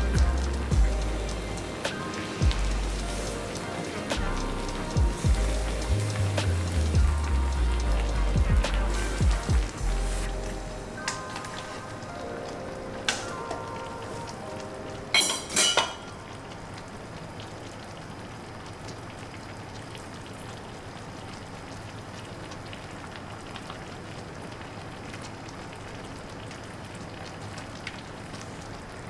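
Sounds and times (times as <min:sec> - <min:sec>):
steady rain hissing: 0:00.0 - 0:29.0.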